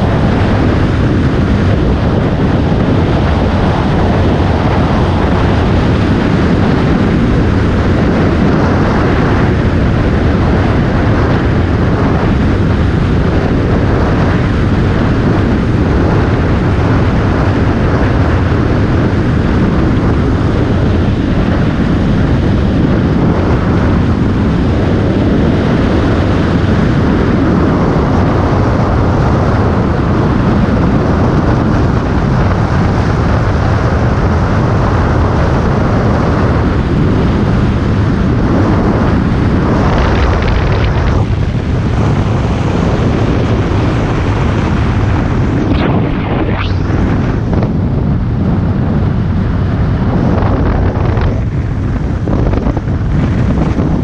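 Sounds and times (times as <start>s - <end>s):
motorcycle engine and tyre noise: 0.0s - 54.0s
wind rushing over microphone: 0.0s - 54.0s.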